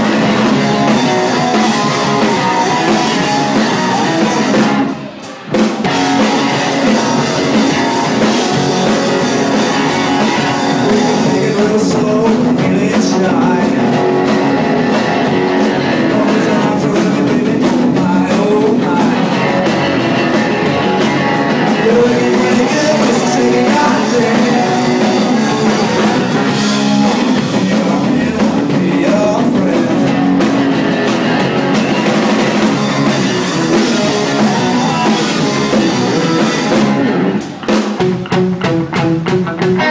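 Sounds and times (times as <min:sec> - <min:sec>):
drum kit: 0:00.0 - 0:39.9
electric guitars: 0:00.0 - 0:39.9
person singing: 0:00.3 - 0:04.7, 0:05.9 - 0:30.5, 0:32.8 - 0:37.4.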